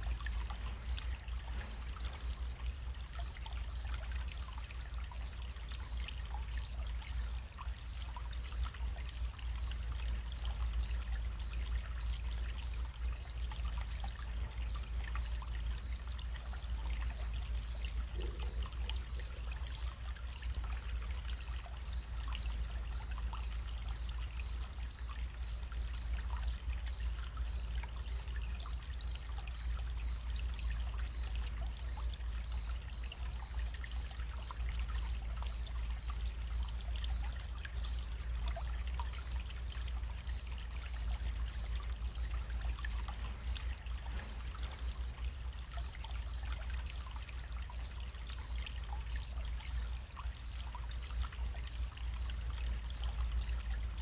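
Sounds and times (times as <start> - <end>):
stream trickling and splashing: 0.0 - 54.0.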